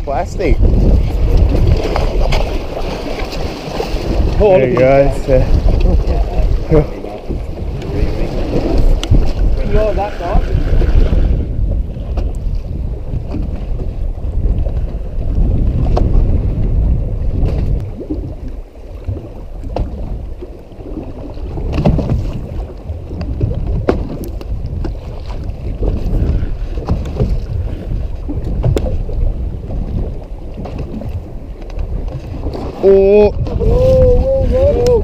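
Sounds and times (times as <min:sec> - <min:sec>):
water sloshing around boat: 0:00.0 - 0:35.0
wind buffeting microphone: 0:00.0 - 0:35.0.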